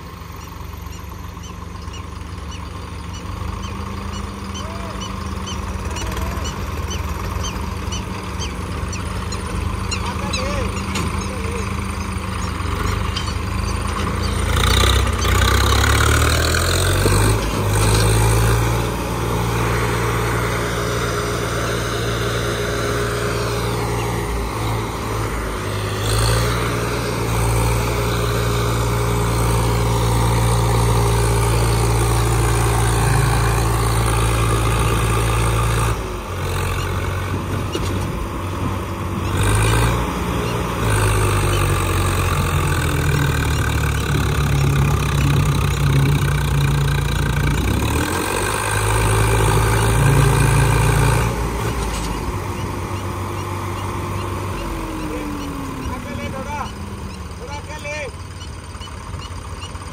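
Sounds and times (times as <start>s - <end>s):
tractor diesel engines under load: 0.0s - 59.9s.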